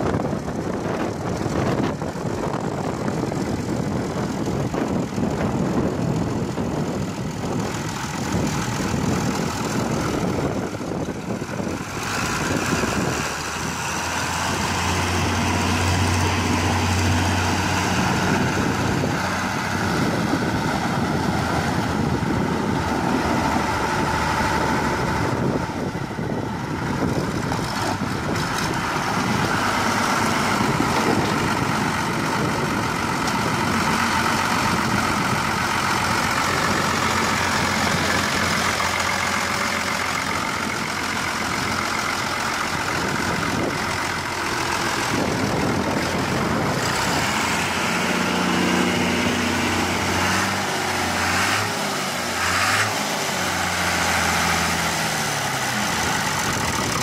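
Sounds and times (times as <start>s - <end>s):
heavier low hum: 0.0s - 52.4s
tractor diesel engine running: 0.0s - 57.0s.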